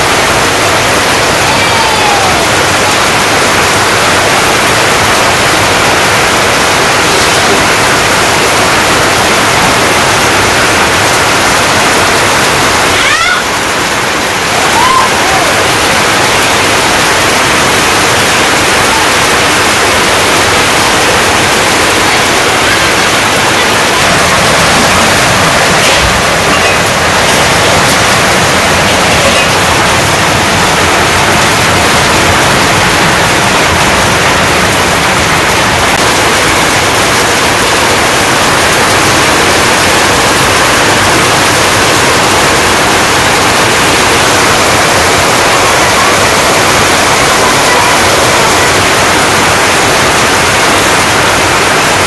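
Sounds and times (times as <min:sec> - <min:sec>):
heavy rain on tin roofs: 0:00.0 - 0:52.0.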